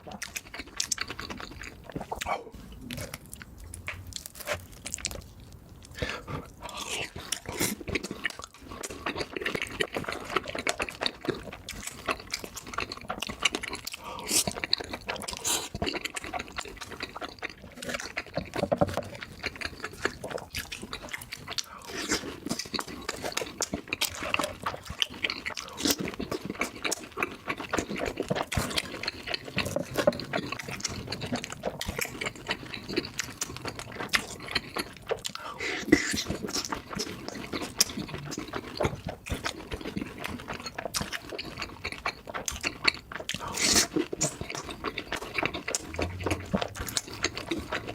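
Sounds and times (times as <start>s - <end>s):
person chewing and biting: 0.0s - 47.9s.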